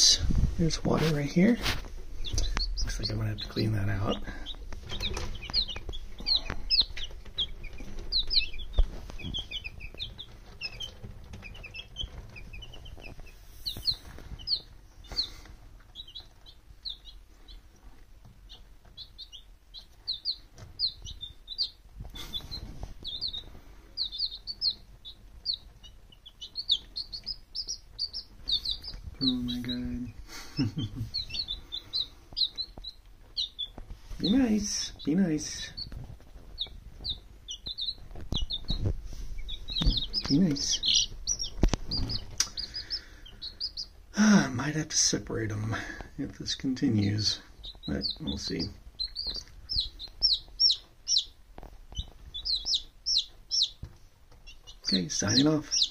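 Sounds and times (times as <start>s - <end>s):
chicks peeping: 0.0s - 55.9s.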